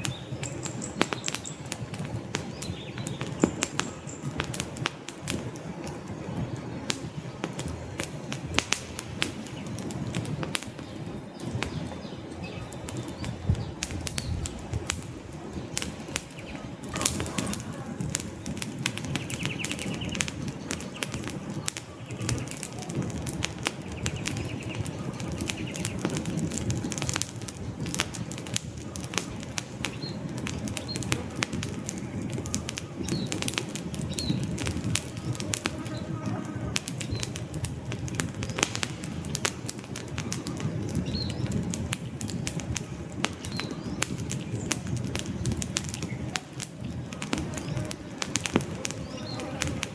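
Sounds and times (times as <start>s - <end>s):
fire burning: 0.0s - 49.9s
logs crackling and popping: 0.0s - 49.9s.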